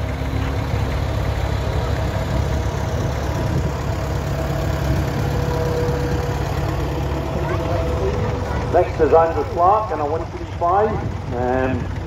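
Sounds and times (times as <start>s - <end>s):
tractor engine driving past: 0.0s - 12.0s.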